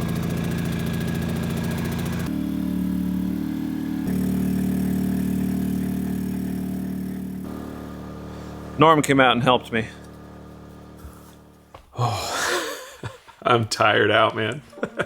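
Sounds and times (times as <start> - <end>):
generator engine running: 0.0 - 12.3.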